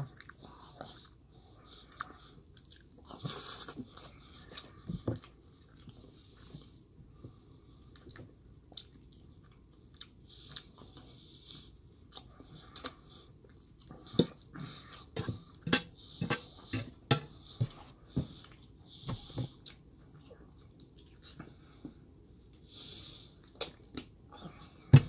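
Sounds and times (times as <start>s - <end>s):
close chewing: 0.0s - 6.8s, 7.9s - 21.6s.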